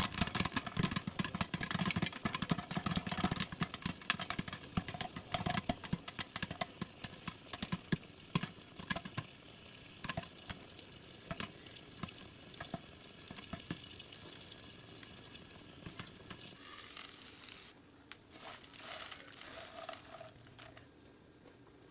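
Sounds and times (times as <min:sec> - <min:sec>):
food frying with crackling pops: 0:00.0 - 0:21.8
sizzling hiss: 0:03.1 - 0:20.8.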